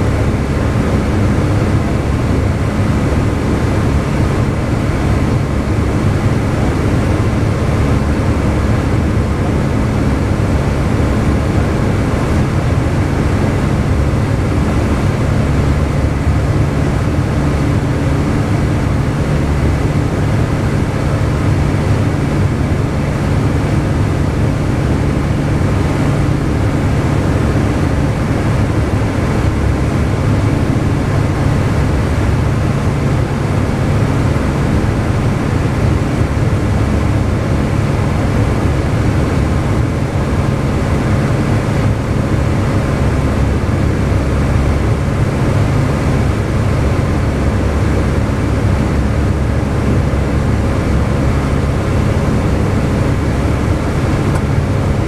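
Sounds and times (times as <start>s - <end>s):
light airplane engine humming: 0.0s - 55.0s.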